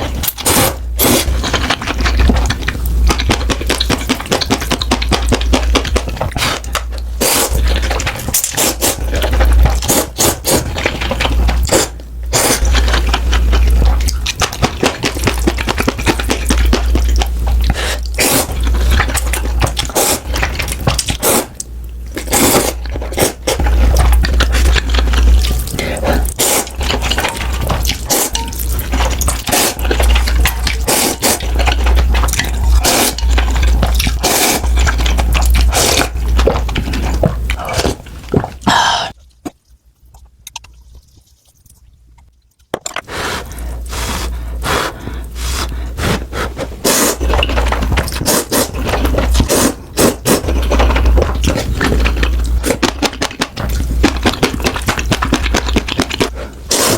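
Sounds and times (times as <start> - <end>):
noodles being slurped: 0.0 - 39.2, 43.0 - 56.9.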